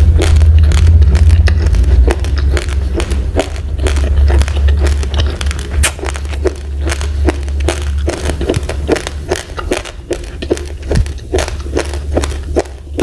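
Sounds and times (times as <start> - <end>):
crunching uncooked rice: 0.0 - 13.0
steady low rumble: 0.0 - 13.0.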